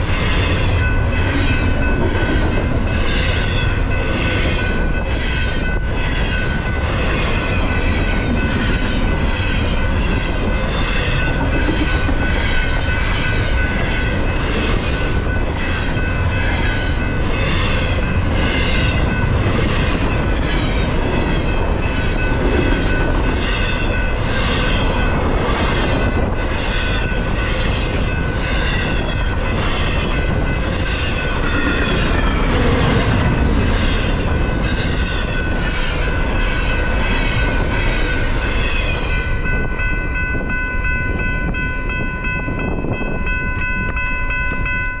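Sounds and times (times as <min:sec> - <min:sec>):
crossing warning bell ringing: 0:00.0 - 0:45.0
freight train wheels clacking: 0:00.0 - 0:45.0.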